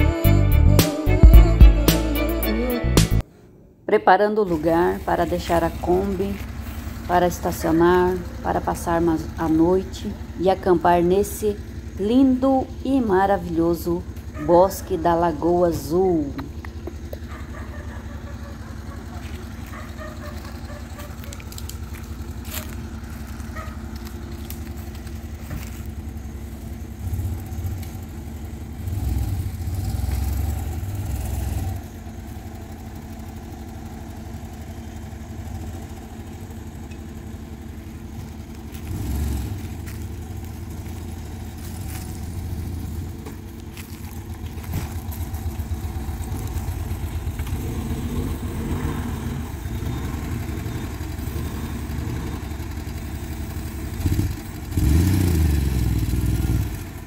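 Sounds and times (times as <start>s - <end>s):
van engine revving: 4.5s - 57.0s.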